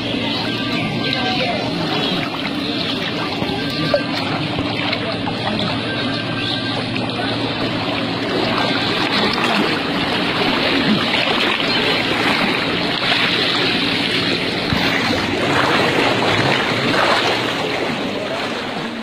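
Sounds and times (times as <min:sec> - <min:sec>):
people wading through water: 0:00.0 - 0:19.0.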